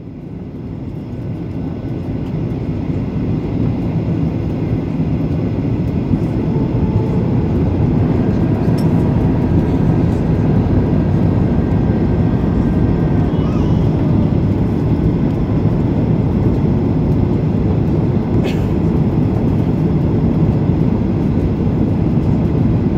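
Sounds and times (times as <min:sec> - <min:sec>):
airliner cabin rumble: 0:00.0 - 0:22.9.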